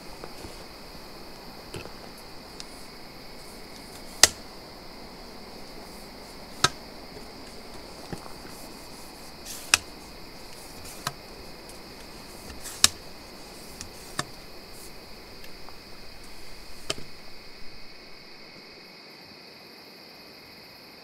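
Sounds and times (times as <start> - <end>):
tripod leg locks clicking: 0.0 - 18.4
soft rustle: 0.0 - 18.6
insect chirring: 0.0 - 18.9.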